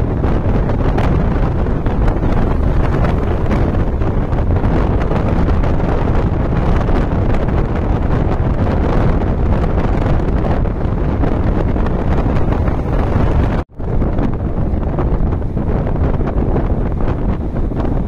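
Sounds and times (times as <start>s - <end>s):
bus engine and tyres on road: 0.0s - 18.0s
wind buffeting microphone: 0.0s - 18.0s.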